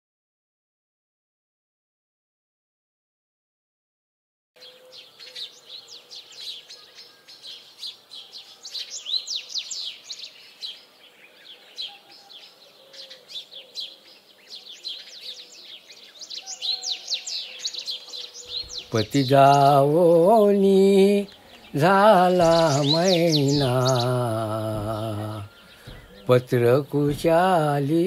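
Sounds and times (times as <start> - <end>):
small birds chirping: 4.6 - 28.0.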